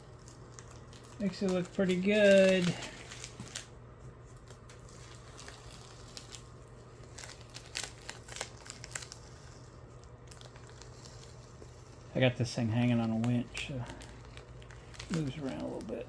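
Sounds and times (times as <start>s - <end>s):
decal paper crinkling: 0.0s - 16.0s
low steady hum: 0.0s - 16.0s.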